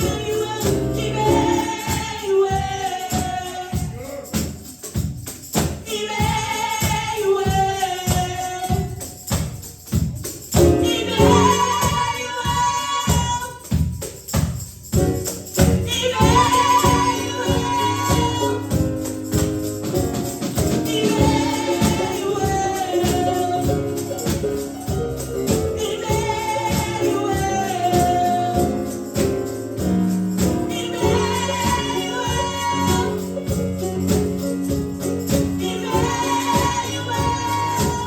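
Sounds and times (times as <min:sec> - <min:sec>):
tambourine beat: 0:00.0 - 0:38.0.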